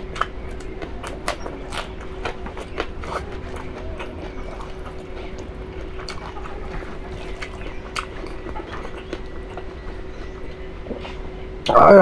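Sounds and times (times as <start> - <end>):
close-up chewing: 0.0 - 11.7
faint steady hum: 0.0 - 12.0.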